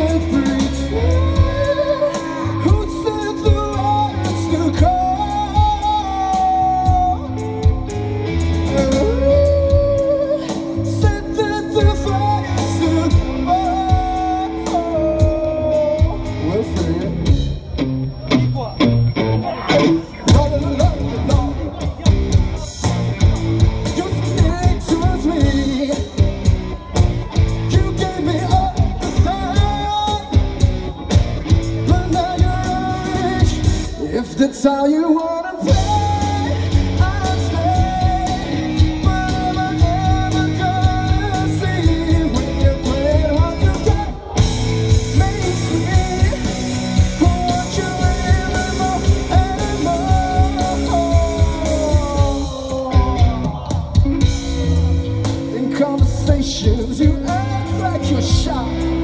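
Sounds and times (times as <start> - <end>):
man singing long notes: 0.0 - 8.0, 8.6 - 17.5, 27.4 - 31.1, 31.7 - 59.0
bass: 0.0 - 59.0
driving drum beat: 0.0 - 59.0
electric guitars: 0.0 - 59.0.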